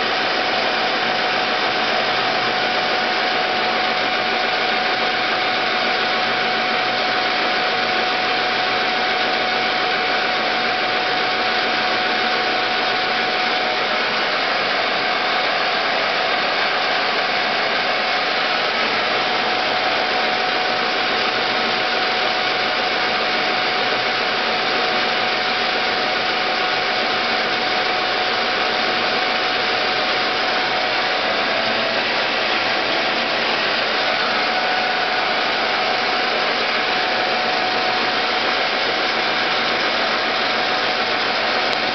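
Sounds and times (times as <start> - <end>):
metal lathe whining hum: 0.0 - 41.9.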